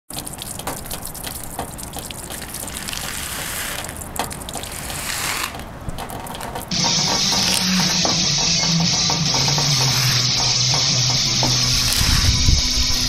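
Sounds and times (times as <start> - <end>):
rain stick trickling: 0.1 - 13.0.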